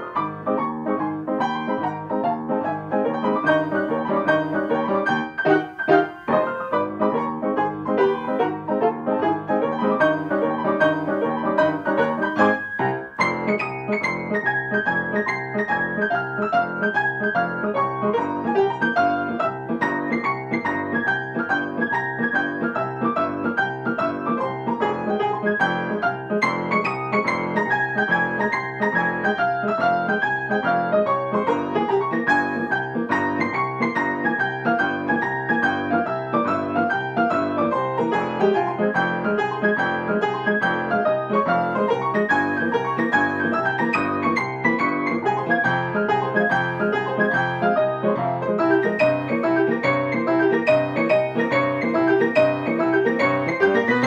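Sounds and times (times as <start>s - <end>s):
fast piano duet: 0.0s - 54.0s.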